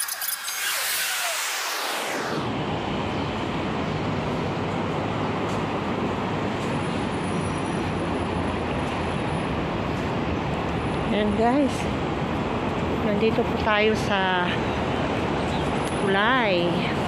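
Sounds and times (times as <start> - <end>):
roadside traffic rumble: 0.0 - 17.0.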